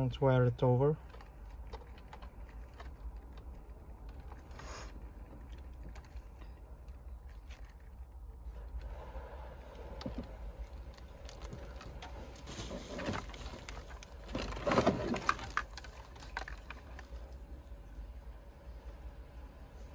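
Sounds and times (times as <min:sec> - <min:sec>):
low steady hum: 0:00.0 - 0:19.9
wires rustling and clicking: 0:00.9 - 0:18.0.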